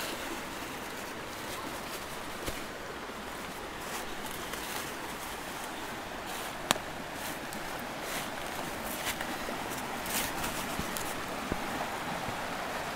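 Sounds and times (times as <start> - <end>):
footsteps through dry leaves: 0.0 - 11.6
creek rushing over boulders: 0.0 - 12.9.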